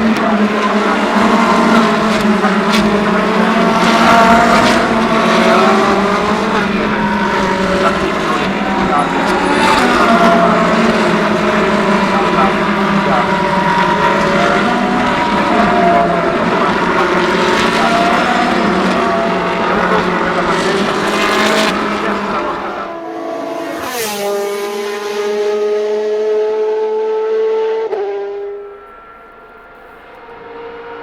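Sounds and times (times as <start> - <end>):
race car engines at full throttle: 0.0 - 31.0
race car passing by: 0.0 - 31.0.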